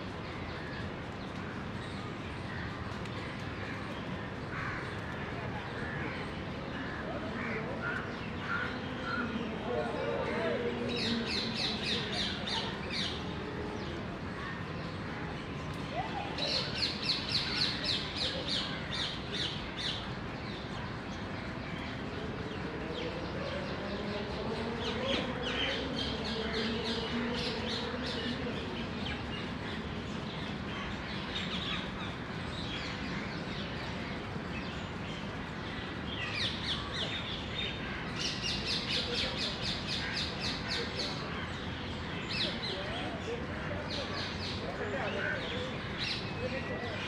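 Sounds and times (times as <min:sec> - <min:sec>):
steady outdoor hiss: 0:00.0 - 0:47.0.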